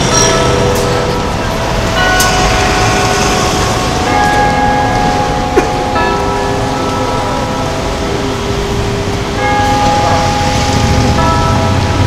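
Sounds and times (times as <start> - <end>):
clock tower chime bells: 0.0 - 12.0
street traffic noise: 0.0 - 12.0.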